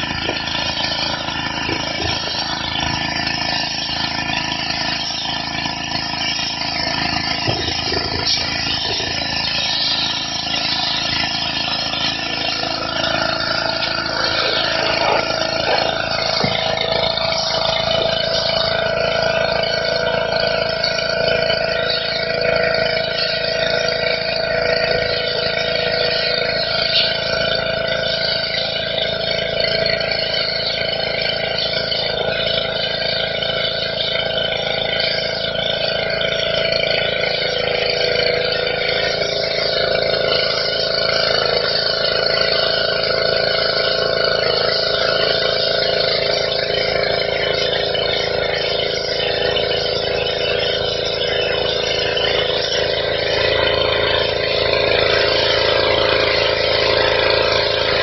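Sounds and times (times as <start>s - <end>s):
pressure washer engine running: 0.0s - 58.0s
water jet hissing on stone: 0.0s - 58.0s.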